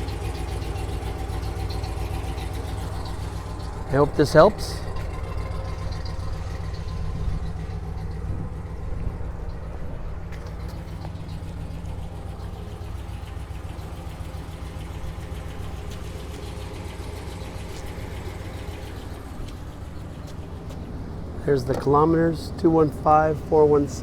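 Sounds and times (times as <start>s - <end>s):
pickup engine idling: 0.0s - 24.0s.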